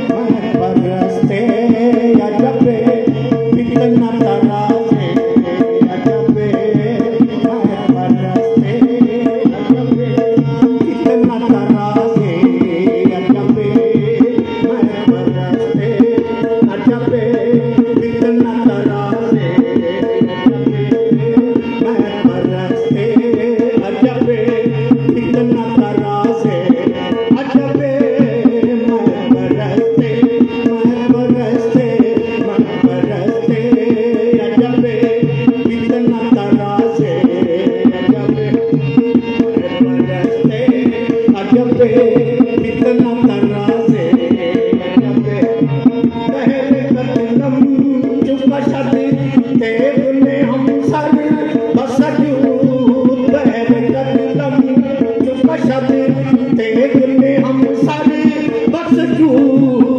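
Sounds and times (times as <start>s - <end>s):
harmonium held notes: 0.0s - 59.9s
tabla playing rhythm: 0.0s - 59.9s.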